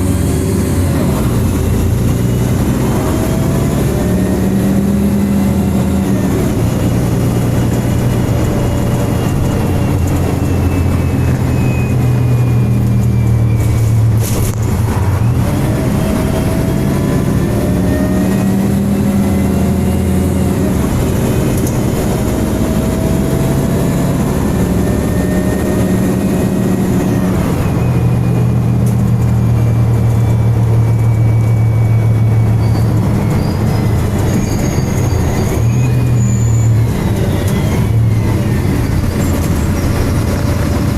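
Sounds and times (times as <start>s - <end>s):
bus engine and fan: 0.0s - 40.9s
gliding whines: 0.0s - 40.9s.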